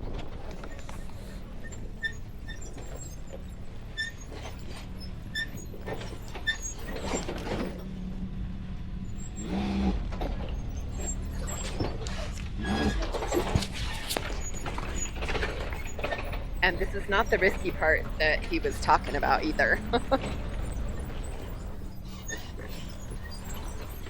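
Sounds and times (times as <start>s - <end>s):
short squeals: 0.0s - 8.1s, 9.0s - 24.0s
low engine hum: 0.0s - 24.0s
vehicle body creaks and rattles: 0.0s - 24.0s.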